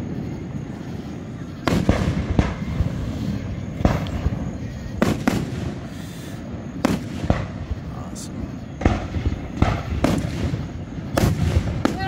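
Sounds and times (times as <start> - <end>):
firework booms: 0.0 - 12.0
low rolling echo: 0.0 - 12.0.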